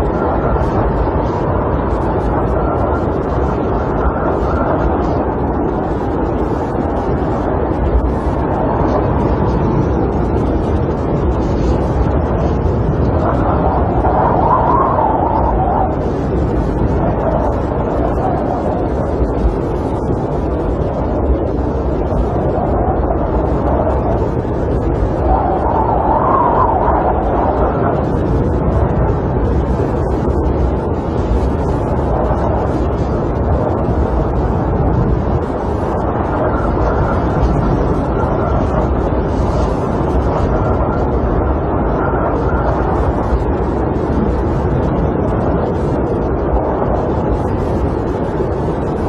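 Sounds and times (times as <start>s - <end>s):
wind blowing against a camper: 0.0s - 49.0s.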